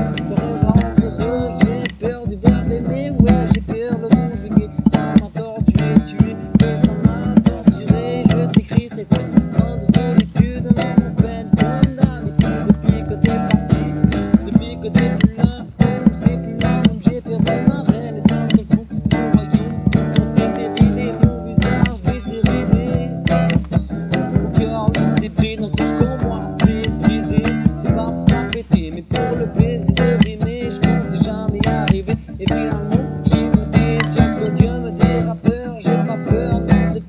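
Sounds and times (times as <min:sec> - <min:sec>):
sharp percussive hits: 0:00.0 - 0:35.7
guitar music: 0:00.0 - 0:37.0.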